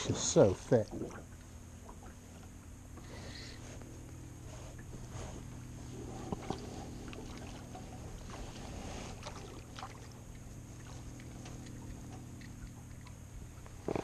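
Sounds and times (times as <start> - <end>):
steady low hum: 0.0 - 14.0
water lapping against boat: 0.0 - 14.0.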